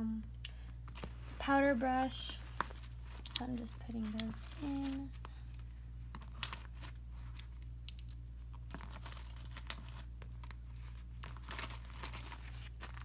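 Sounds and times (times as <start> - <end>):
steady low hum: 0.0 - 13.0
brushes rustling against vinyl pouch: 0.8 - 13.0.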